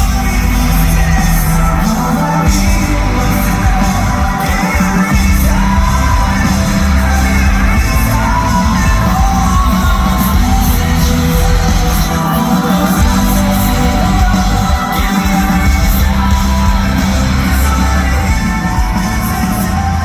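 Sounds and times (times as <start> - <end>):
person singing long notes: 0.0 - 20.0
rock band playing live: 0.0 - 20.0.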